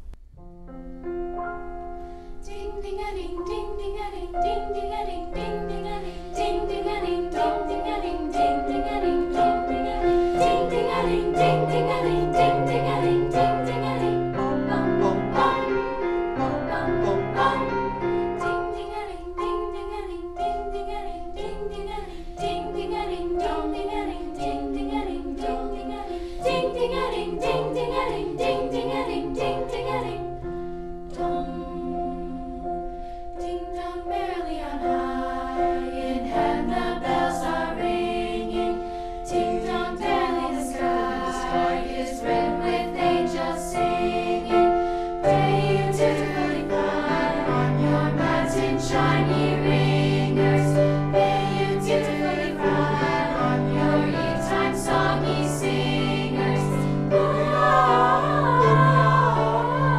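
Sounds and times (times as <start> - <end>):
choir singing in chords: 1.1 - 59.9.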